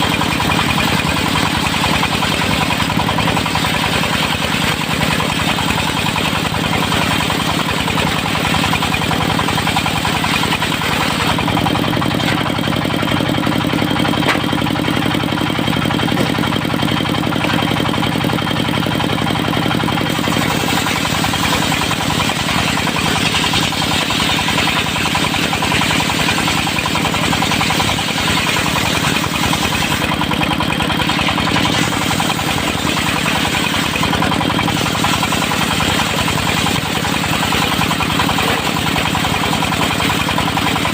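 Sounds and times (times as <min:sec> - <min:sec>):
circular saw cutting: 0:00.0 - 0:13.2, 0:20.0 - 0:40.9
diesel engine drone: 0:00.0 - 0:40.9.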